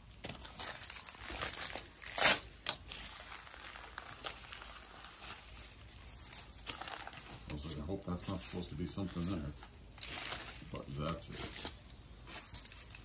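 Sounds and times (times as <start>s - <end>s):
paper envelope rustling: 0.0s - 13.0s
sharp crackles: 0.2s - 13.0s.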